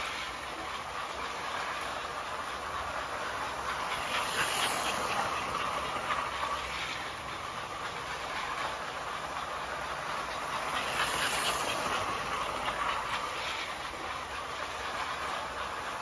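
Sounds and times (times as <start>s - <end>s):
model train rattling on rails: 0.0s - 16.0s.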